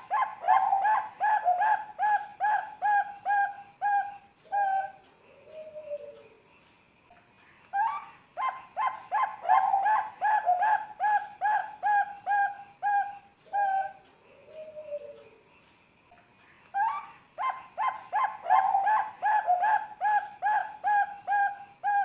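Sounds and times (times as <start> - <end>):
dove cooing: 0.0 - 6.3, 7.8 - 15.4, 16.8 - 22.0.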